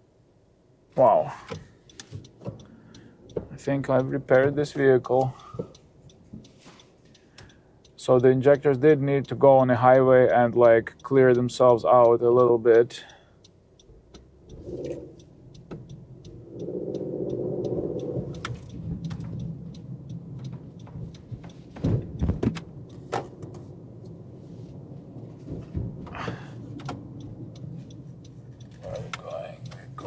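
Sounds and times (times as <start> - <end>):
engine and road rumble in cabin: 0.0 - 30.0
light regular ticking: 0.9 - 30.0.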